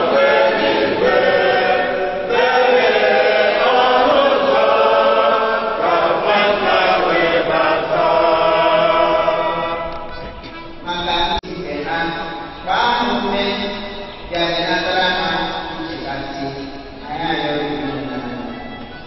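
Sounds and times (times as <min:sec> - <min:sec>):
congregation singing: 0:00.0 - 0:19.0.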